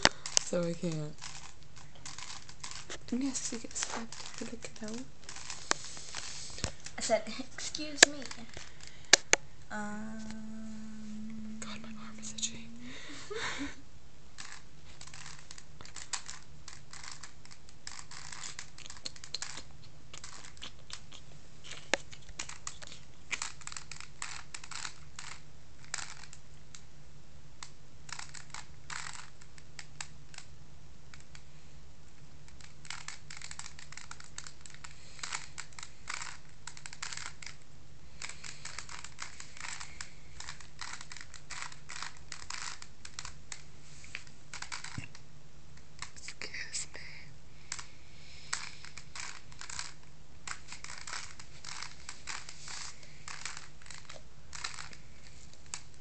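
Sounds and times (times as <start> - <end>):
plastic clicks of cube turning: 0.0 - 9.4, 14.4 - 26.9, 27.6 - 30.5, 31.1 - 31.5, 32.4 - 47.0, 47.6 - 56.0
steady low hum: 0.0 - 56.0.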